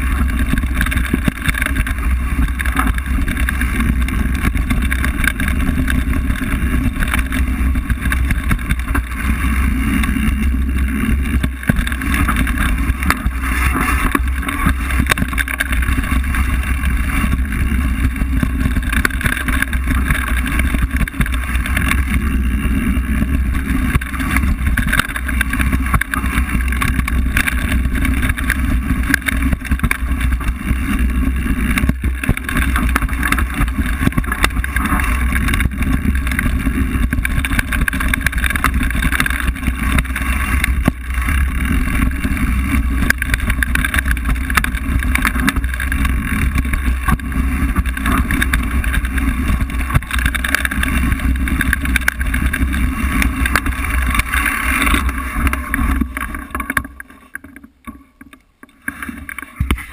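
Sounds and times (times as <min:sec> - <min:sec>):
tyre rumble on dirt trail: 0:00.0 - 0:57.4, 0:58.9 - 0:59.9
bike clicks and rattles: 0:00.0 - 0:59.9.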